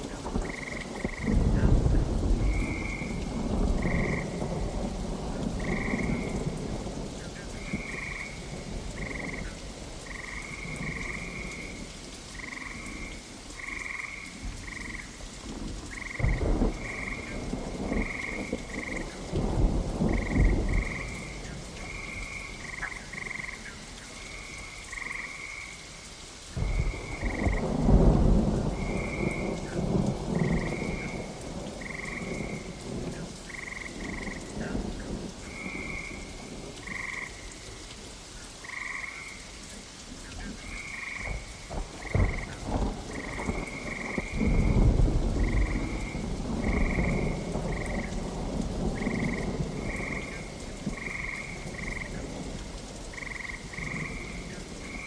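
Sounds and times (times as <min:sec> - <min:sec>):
rolling thunder: 0:00.0 - 0:13.0, 0:14.4 - 0:23.4, 0:26.6 - 0:37.2, 0:40.6 - 0:55.0
frogs croaking: 0:00.0 - 0:55.0
steady rain: 0:00.0 - 0:55.0.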